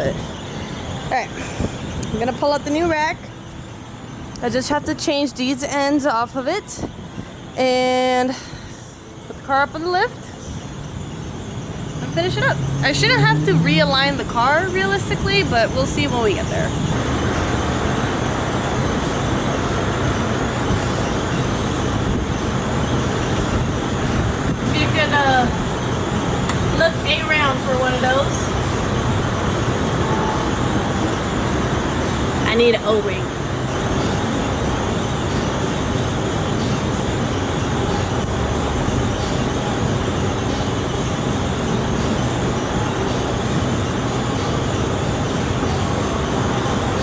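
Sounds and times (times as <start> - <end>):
mechanical rumble and hiss: 0.0 - 47.0
rushing noise: 6.8 - 47.0.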